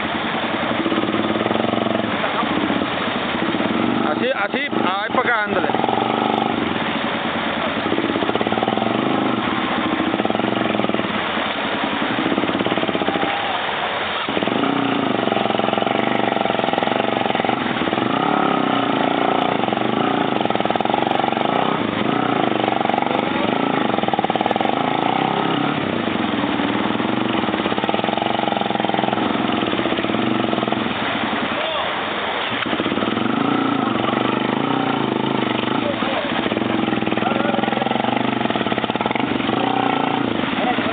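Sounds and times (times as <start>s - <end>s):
atv engine revving: 0.0s - 31.6s, 32.2s - 40.9s.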